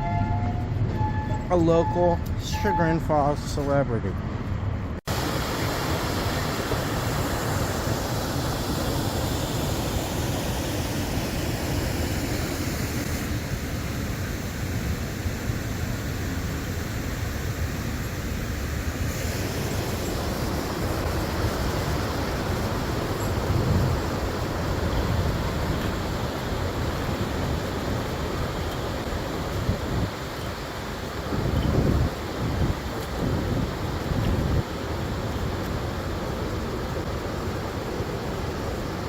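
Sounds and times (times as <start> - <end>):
river water rushing: 5.1 - 39.0.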